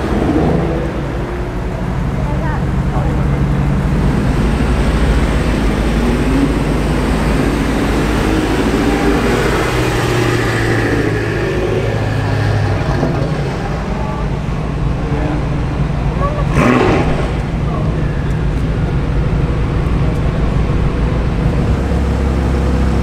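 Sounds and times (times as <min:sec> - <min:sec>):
car engine low drone passing: 0:00.0 - 0:23.0
car engines burbling at low revs: 0:00.0 - 0:23.0.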